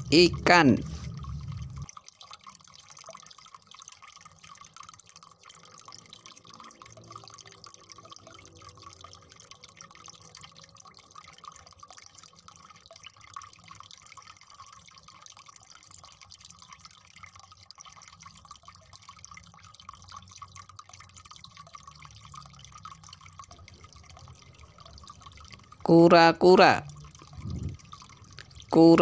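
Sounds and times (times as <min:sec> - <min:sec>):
water dripping: 0:00.0 - 0:29.0.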